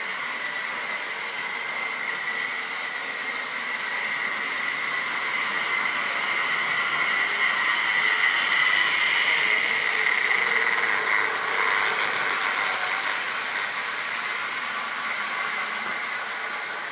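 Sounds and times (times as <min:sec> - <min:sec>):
high-pitched motor whine: 0:00.0 - 0:16.9
model train running on metal track: 0:00.0 - 0:16.9
wheels running on track: 0:00.0 - 0:16.9.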